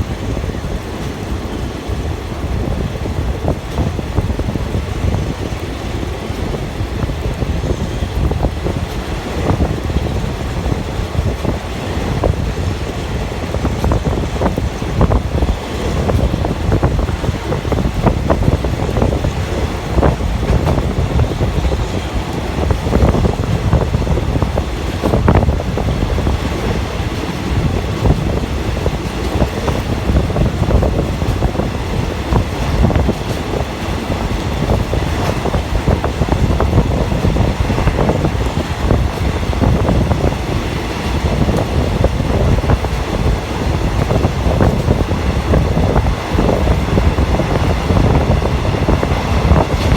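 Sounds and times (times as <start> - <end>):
train rumble and rattle: 0.0 - 49.9
train wheels clacking: 0.0 - 49.9
wind noise: 0.0 - 49.9.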